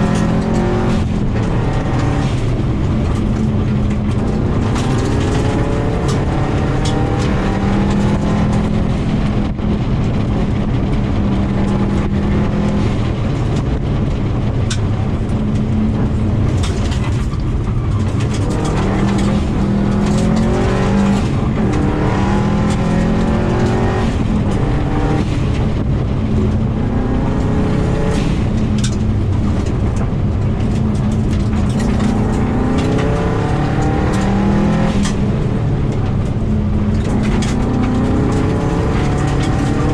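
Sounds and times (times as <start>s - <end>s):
gravel hitting car: 0.0s - 39.9s
rally car engine revving: 0.0s - 39.9s.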